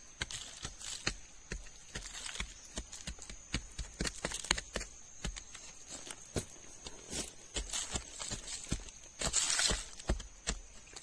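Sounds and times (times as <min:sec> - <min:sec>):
stick jabbing into dry leaves: 0:00.0 - 0:05.8, 0:07.5 - 0:11.0
high insect drone: 0:00.0 - 0:11.0.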